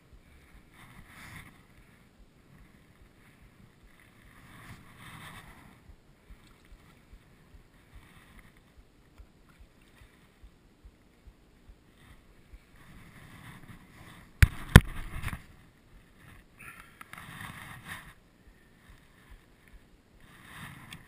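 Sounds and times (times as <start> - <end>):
water around a boat: 0.0 - 21.0.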